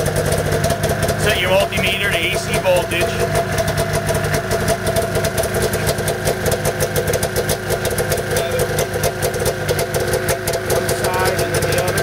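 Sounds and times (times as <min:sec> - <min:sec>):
snowmobile engine idling: 0:00.0 - 0:12.0.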